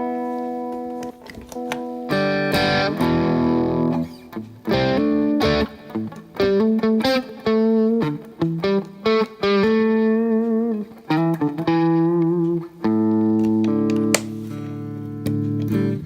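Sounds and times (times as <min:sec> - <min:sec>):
overdriven electric guitar: 0:00.0 - 0:16.0.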